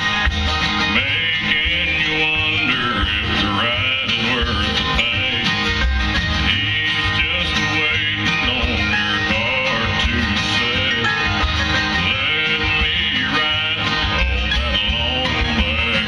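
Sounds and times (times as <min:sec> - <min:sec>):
acoustic guitar: 0:00.0 - 0:16.0
banjo picking: 0:00.0 - 0:16.0
bluegrass band playing: 0:00.0 - 0:16.0
fiddle: 0:00.0 - 0:16.0.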